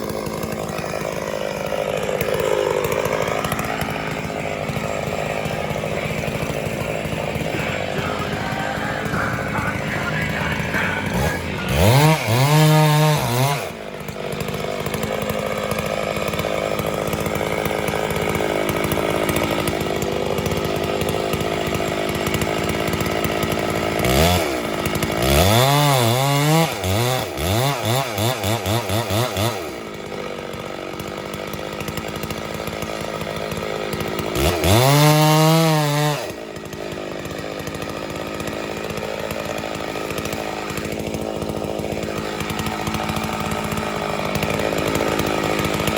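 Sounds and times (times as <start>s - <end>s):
two-stroke chainsaw revving: 0.0s - 45.9s.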